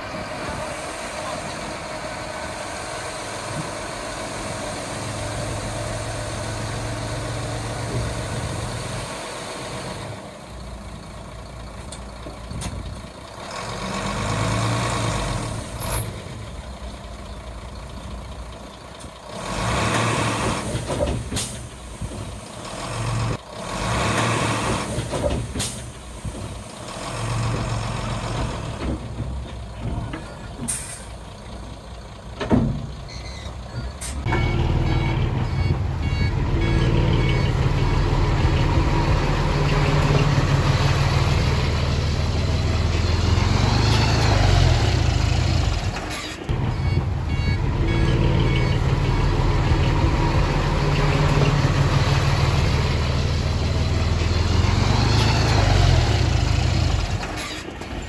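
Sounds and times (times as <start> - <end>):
diesel machinery engine: 0.0 - 58.0.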